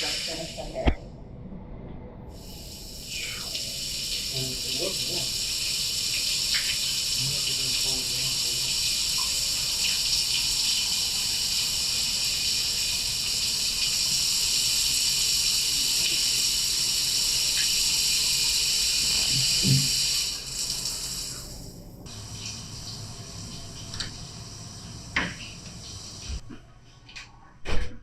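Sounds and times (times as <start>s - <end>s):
shower spray hissing: 0.0s - 0.8s, 2.3s - 26.4s.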